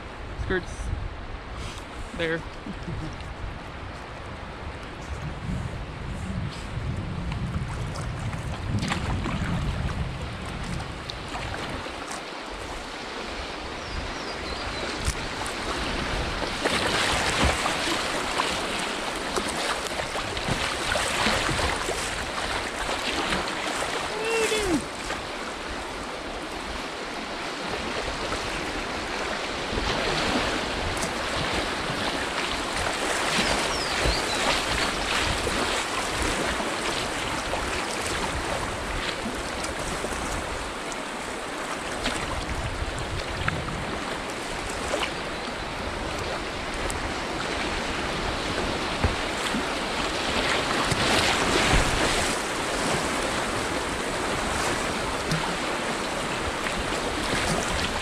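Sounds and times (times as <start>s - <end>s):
whitewater rushing and splashing: 6.8s - 58.0s.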